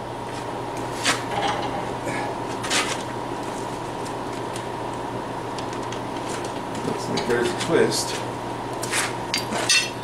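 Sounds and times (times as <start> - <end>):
shop equipment humming: 0.0 - 10.0.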